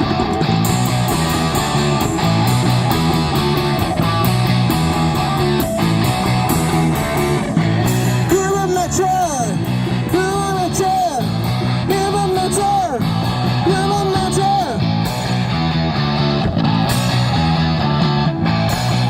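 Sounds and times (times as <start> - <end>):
punk rock band playing: 0.0 - 19.0.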